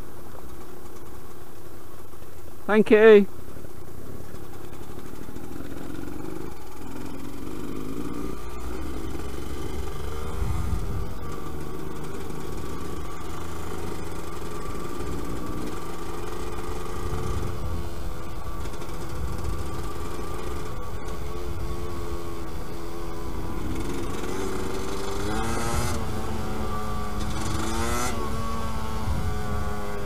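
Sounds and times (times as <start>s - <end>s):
two-stroke motorcycle engine running: 0.0s - 30.0s.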